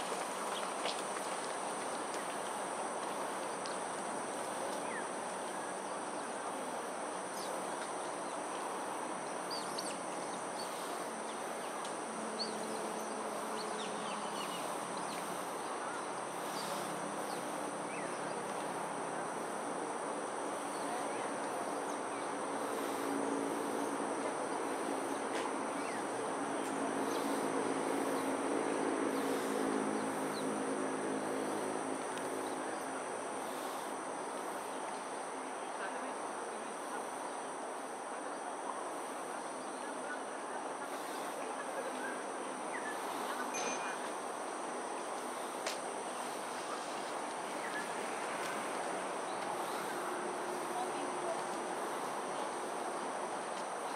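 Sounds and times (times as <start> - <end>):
insects calling: 0.0 - 53.9.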